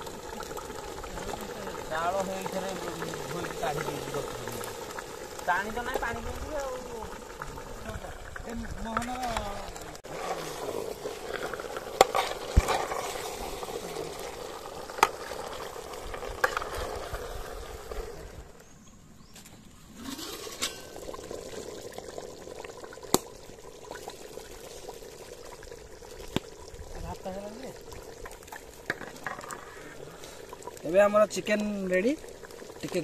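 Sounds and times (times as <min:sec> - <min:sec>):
curry bubbling in a pot: 0:00.0 - 0:18.6, 0:20.0 - 0:33.0.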